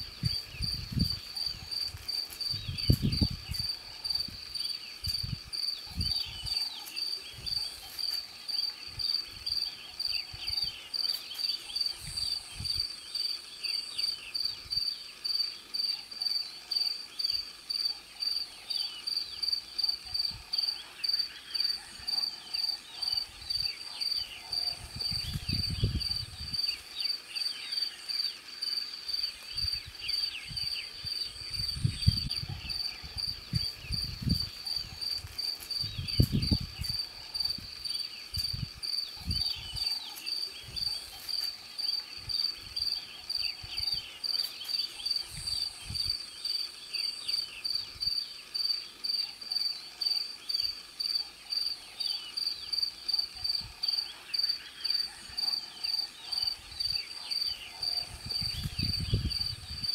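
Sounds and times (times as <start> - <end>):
cricket chirping: 0.0 - 59.9
faint birds chirping: 0.0 - 59.9.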